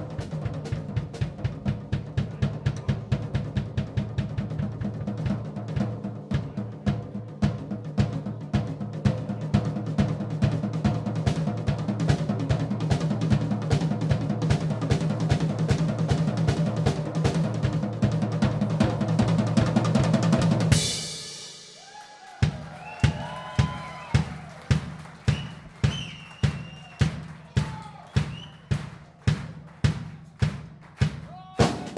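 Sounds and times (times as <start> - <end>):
drum rolls and fills: 0.0 - 31.9
heavy drum beats: 0.0 - 31.9.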